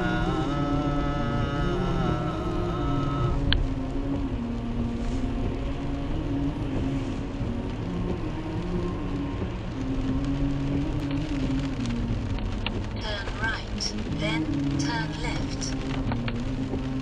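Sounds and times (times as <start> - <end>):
car engine and road drone: 0.0 - 17.0
rain on car: 0.0 - 17.0.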